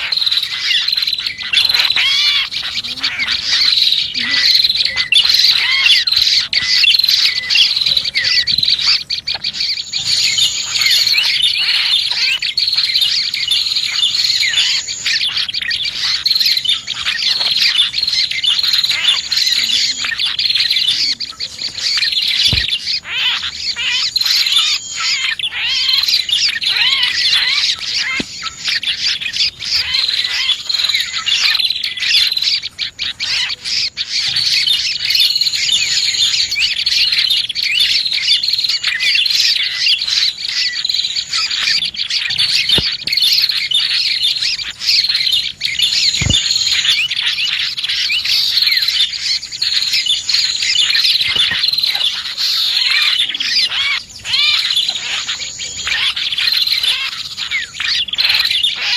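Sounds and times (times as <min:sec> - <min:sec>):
small songbirds chirping: 0:00.0 - 0:58.9.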